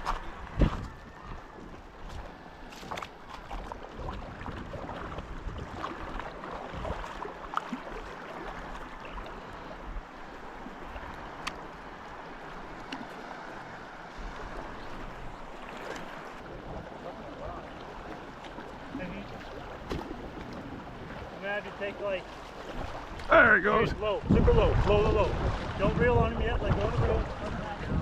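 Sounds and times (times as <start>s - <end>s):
flowing river water: 0.0s - 28.0s
low uneven rumble: 0.0s - 28.0s.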